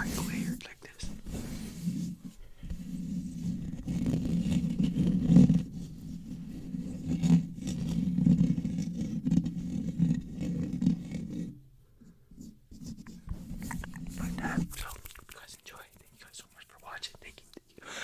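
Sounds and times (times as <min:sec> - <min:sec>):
scratching on a microphone: 0:00.0 - 0:11.5, 0:12.4 - 0:17.5.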